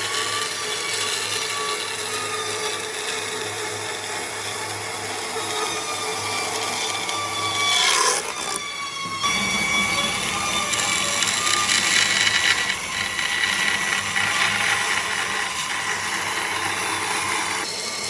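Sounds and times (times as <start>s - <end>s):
power tool humming on wood: 0.0s - 18.0s.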